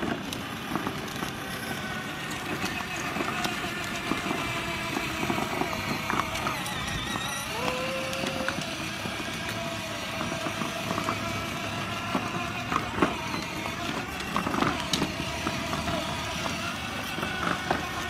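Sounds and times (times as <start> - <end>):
electric motor whine: 0.0 - 18.0
plastic wheels rumbling on asphalt: 0.0 - 18.0.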